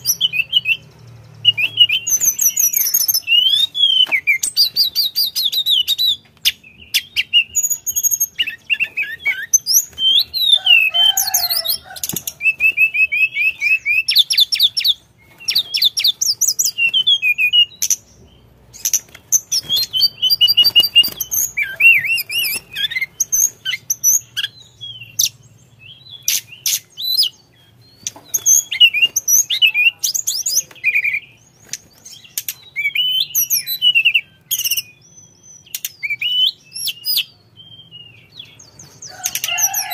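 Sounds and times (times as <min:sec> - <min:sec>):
bird singing whistled trills: 0:00.0 - 0:18.2, 0:18.8 - 0:39.9.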